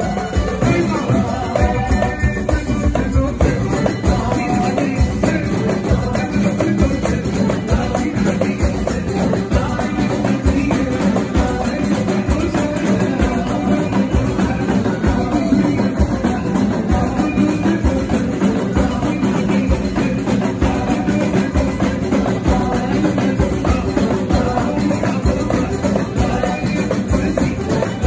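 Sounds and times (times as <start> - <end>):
live band music: 0.0 - 28.0
steady drum beat: 0.0 - 28.0.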